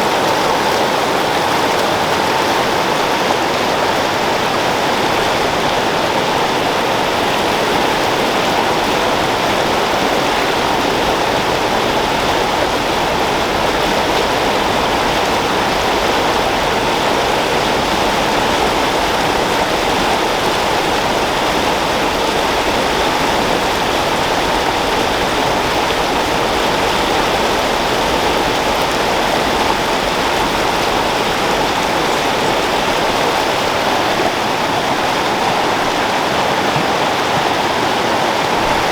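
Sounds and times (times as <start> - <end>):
creek water splashing over rocks: 0.0 - 38.9.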